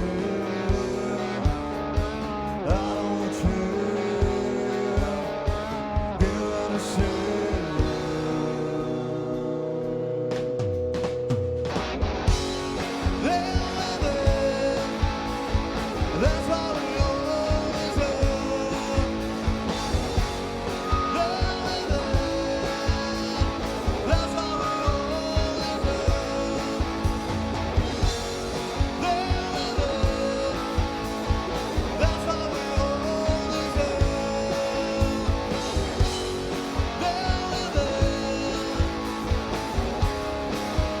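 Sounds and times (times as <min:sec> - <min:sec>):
guitars: 0:00.0 - 0:41.0
steady drum beat: 0:00.0 - 0:41.0.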